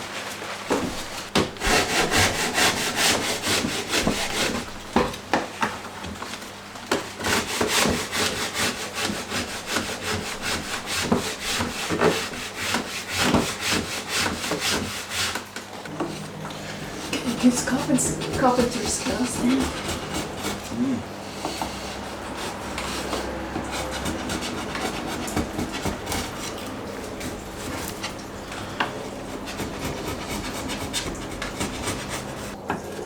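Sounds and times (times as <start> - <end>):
hand saw cutting timber: 0.7 - 5.5, 6.9 - 32.6.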